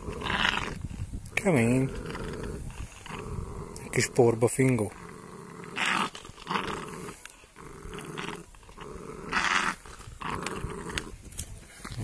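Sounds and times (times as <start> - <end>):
puppy growling: 0.0 - 11.2.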